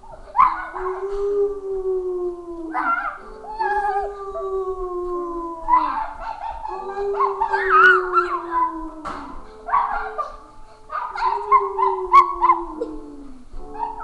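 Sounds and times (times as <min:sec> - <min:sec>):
howling: 0:00.0 - 0:14.0.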